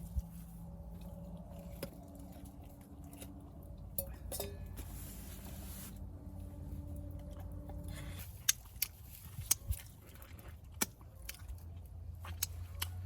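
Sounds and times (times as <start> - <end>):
chewing and crunching ribs: 0.0 - 4.3, 6.5 - 13.0
steady low rumble: 0.0 - 10.8.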